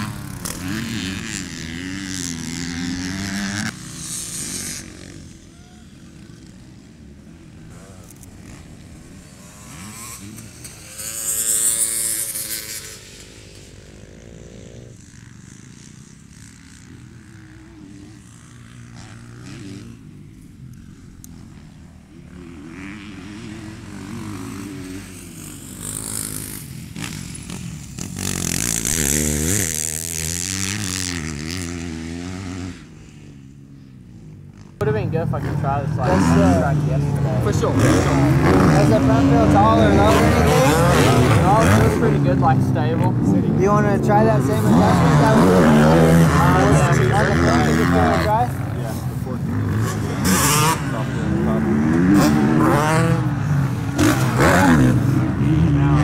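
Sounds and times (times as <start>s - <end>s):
dirt bikes revving: 0.0s - 56.0s.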